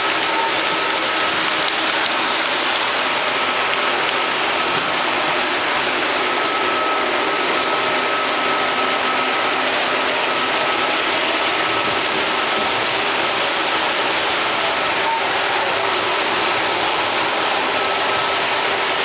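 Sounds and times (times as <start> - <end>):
faint steady whine: 0.0 - 19.0
model trains clattering and whirring: 0.0 - 19.0.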